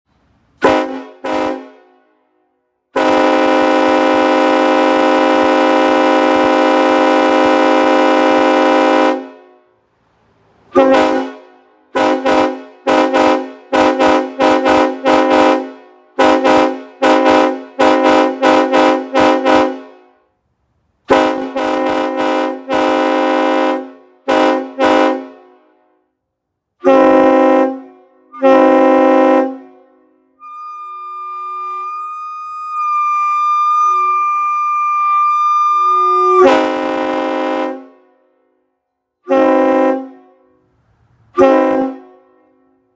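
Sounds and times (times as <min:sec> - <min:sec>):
train horn blasts: 0:00.6 - 0:09.8, 0:10.7 - 0:20.3, 0:21.1 - 0:26.0, 0:26.8 - 0:38.6, 0:39.2 - 0:40.7, 0:41.3 - 0:42.9.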